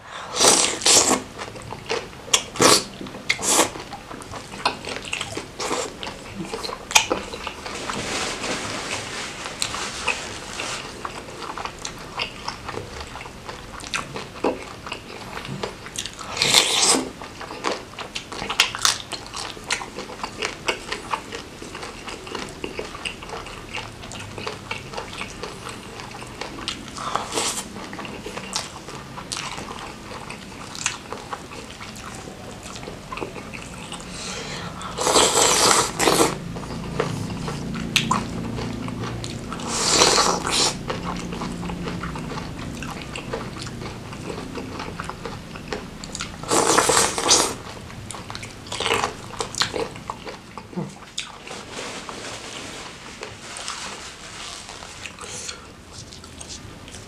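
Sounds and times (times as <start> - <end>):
wet chewing and slurping: 0.0 - 57.0.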